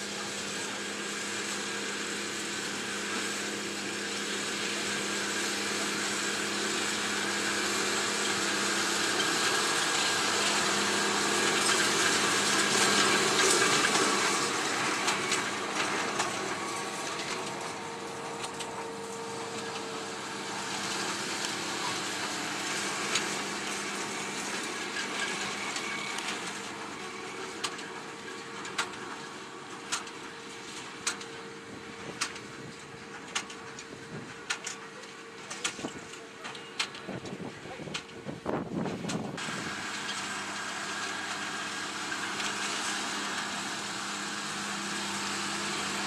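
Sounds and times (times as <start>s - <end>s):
tractor and baler humming: 0.0s - 46.0s.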